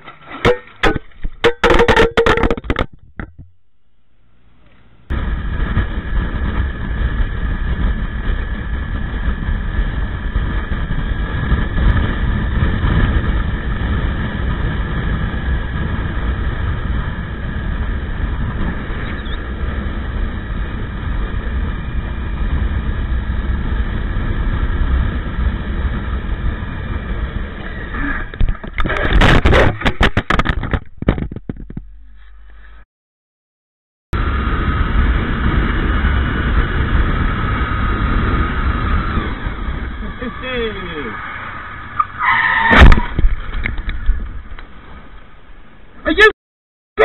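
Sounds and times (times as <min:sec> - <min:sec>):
motorcycle wind and road noise: 0:00.0 - 0:03.6, 0:05.0 - 0:32.8, 0:34.2 - 0:46.3.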